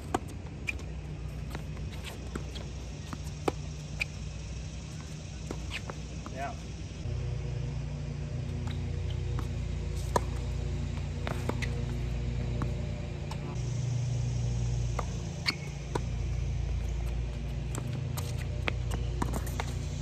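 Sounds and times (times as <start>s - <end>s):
low hum: 0.0s - 20.0s
tennis balls struck by rackets: 0.0s - 20.0s.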